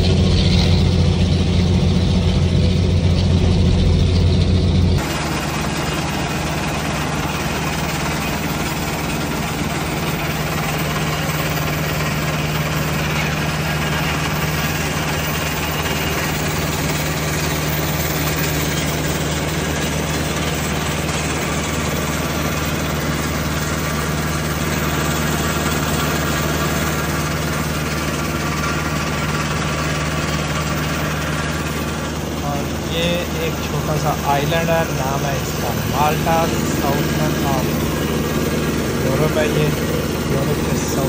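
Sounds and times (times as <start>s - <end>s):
diesel engine hum: 0.0s - 41.0s
vibrating screen rattle and hiss: 0.0s - 41.0s.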